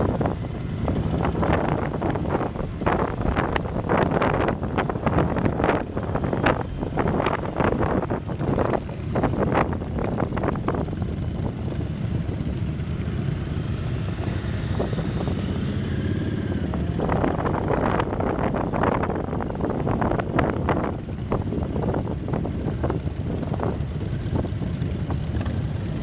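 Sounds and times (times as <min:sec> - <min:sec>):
wind buffeting microphone: 0:00.0 - 0:12.7, 0:14.0 - 0:26.0
motorcycle engine running: 0:00.0 - 0:26.0.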